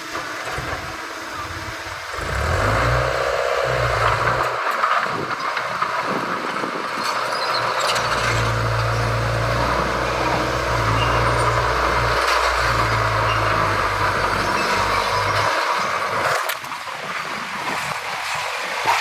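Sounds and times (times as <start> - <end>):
heavy diesel engine humming: 0.0 - 19.0.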